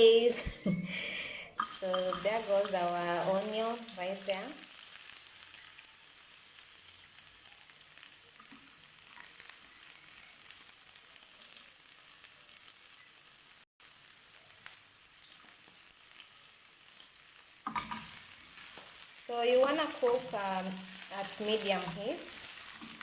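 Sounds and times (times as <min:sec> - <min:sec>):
onion sizzling in hot oil: 0:01.0 - 0:23.0.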